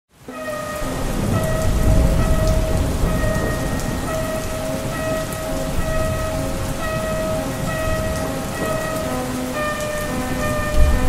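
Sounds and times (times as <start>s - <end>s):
heavy rain: 0.1s - 11.0s
held synth notes: 0.3s - 11.0s
low rumble of thunder: 0.4s - 11.0s.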